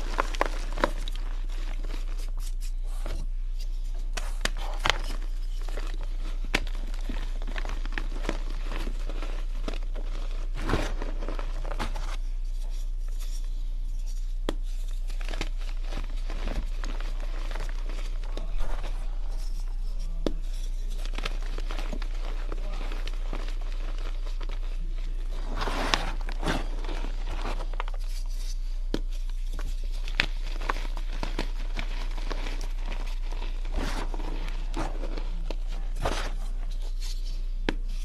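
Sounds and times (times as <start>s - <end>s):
chalk crumbling by hand: 0.0s - 38.0s
low hum: 0.0s - 38.0s.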